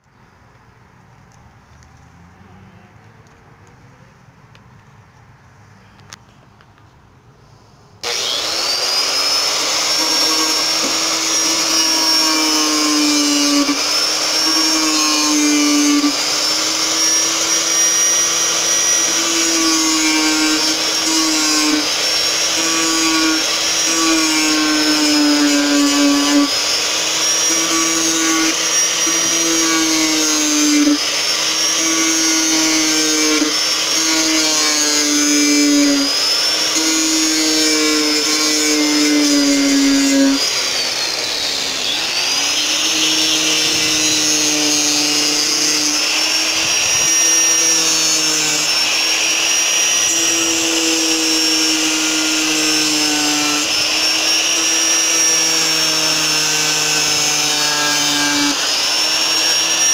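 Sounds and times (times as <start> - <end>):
angle grinder sanding wood: 8.0 - 59.9.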